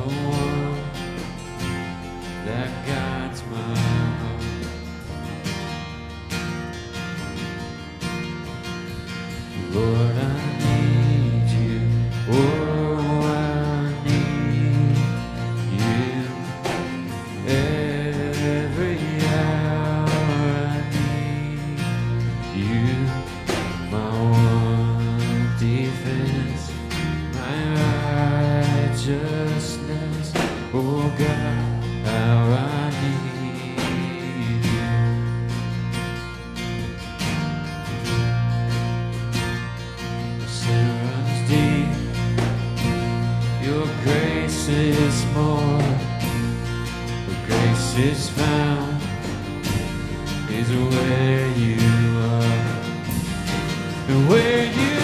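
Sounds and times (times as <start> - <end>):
worship band playing: 0.0 - 55.0.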